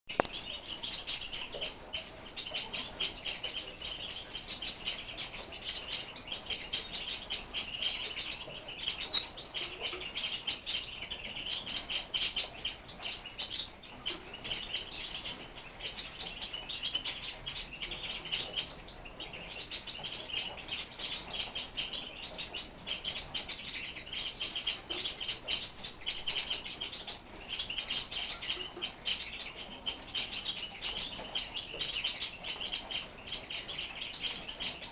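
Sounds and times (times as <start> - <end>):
lark singing warbling song: 0.1 - 34.9.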